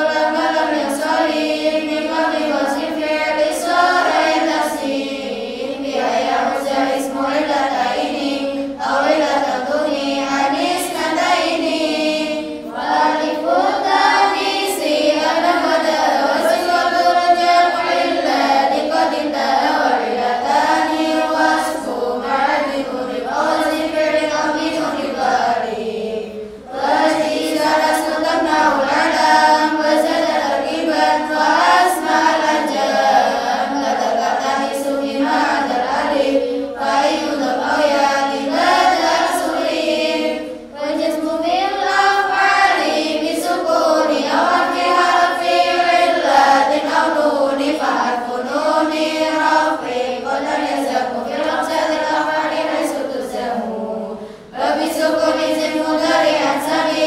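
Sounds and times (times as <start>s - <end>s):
girls chanting in unison: 0.0s - 57.0s.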